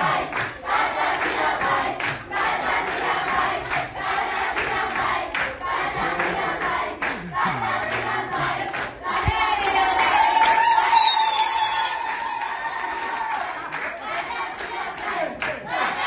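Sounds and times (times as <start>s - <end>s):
clapping in time: 0.0s - 0.6s, 1.2s - 2.3s, 4.5s - 16.0s
crowd singing together: 0.0s - 11.2s, 12.6s - 16.0s.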